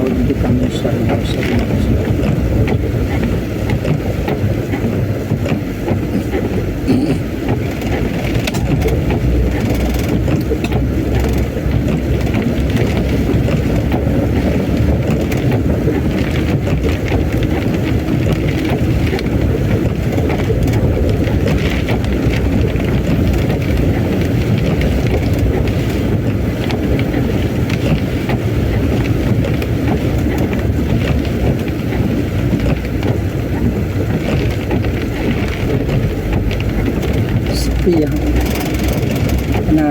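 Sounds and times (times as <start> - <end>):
heavy rain: 0.0 - 39.9
moving vehicle: 0.0 - 39.9
wind rumbling on microphone: 0.0 - 39.9.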